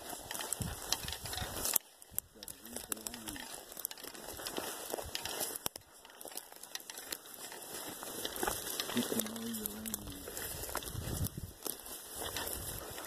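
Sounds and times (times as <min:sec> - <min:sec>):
footsteps through dry grass: 0:00.0 - 0:13.0.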